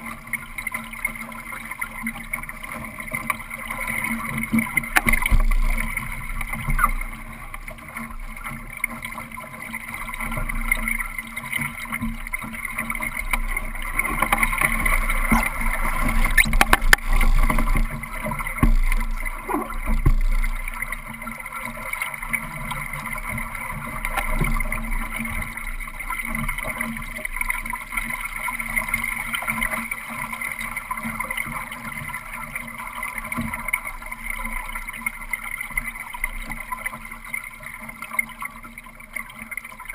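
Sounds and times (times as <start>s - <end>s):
water rushing along boat hull: 0.0s - 39.9s.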